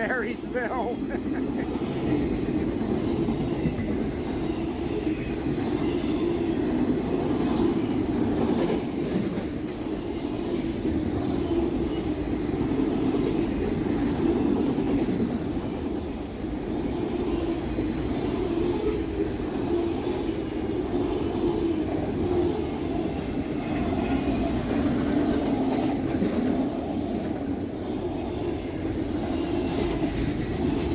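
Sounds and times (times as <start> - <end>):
steel wheels rumbling on rail: 0.0 - 30.9.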